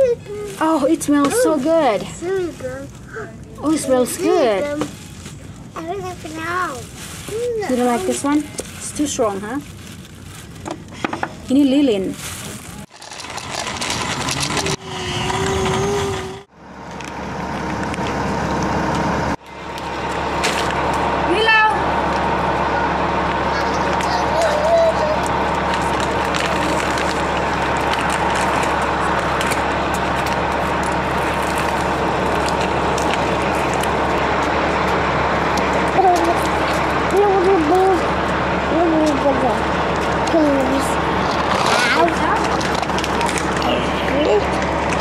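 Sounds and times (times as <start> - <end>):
car cabin road and engine noise: 0.0 - 45.0
vehicle rumble and hiss: 0.0 - 45.0.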